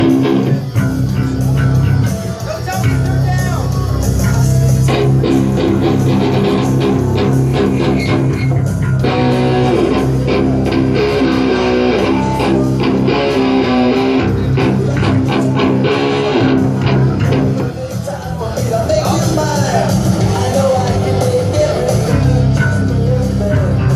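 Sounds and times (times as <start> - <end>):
bass guitar: 0.0 - 23.9
electric guitar: 0.0 - 23.9
rock music: 0.0 - 23.9.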